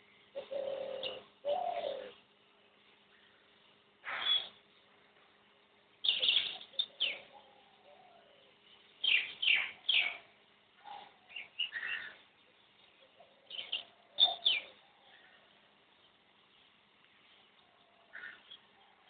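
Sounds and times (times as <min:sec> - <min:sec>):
wild birds calling: 0:00.0 - 0:04.9, 0:05.9 - 0:19.0.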